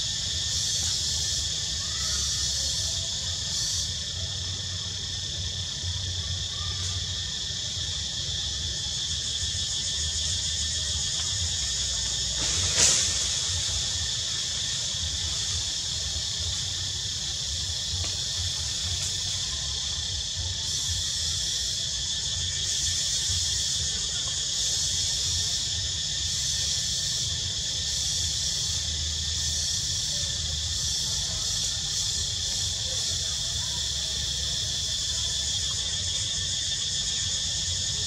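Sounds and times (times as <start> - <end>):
insects chorus: 0.0 - 38.0.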